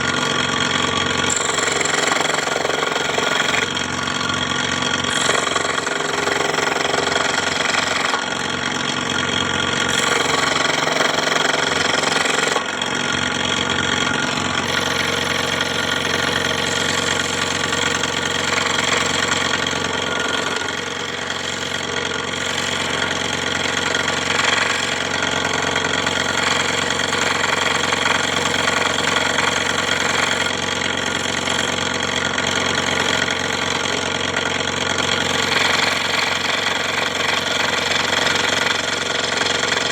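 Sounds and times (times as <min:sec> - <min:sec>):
scroll saw running: 0:00.0 - 0:39.9.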